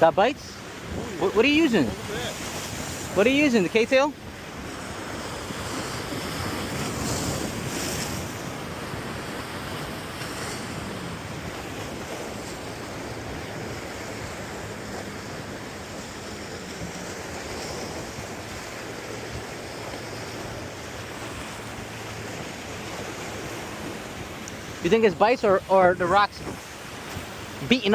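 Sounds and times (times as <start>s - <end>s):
surf washing against rocks: 0.0s - 27.9s
wind buffeting microphone: 0.6s - 27.9s.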